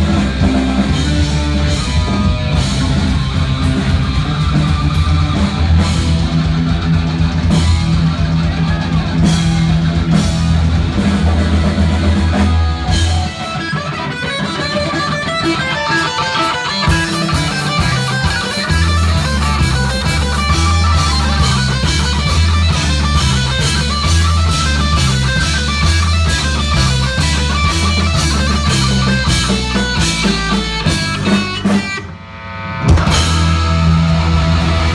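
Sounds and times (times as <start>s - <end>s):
distorted electric guitar: 0.0s - 34.9s
heavy metal band playing live: 0.0s - 34.9s.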